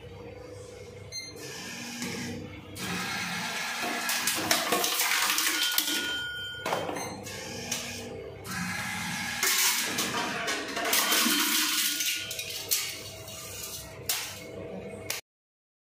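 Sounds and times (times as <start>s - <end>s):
vending mechanism whirring: 0.0s - 15.2s.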